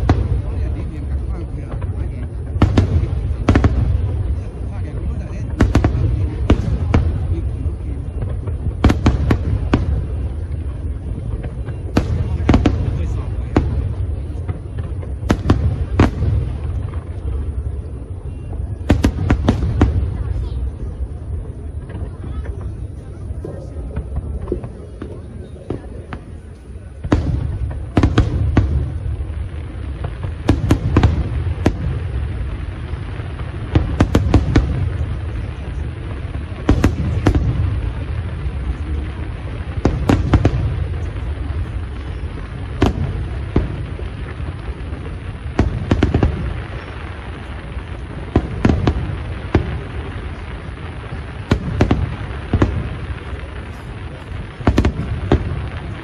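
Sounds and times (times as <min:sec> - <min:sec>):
fireworks bursting with booms: 0:00.0 - 0:56.0.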